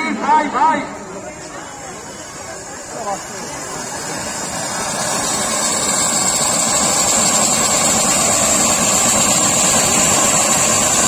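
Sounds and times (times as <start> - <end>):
fountain firework hissing: 1.6 - 11.0.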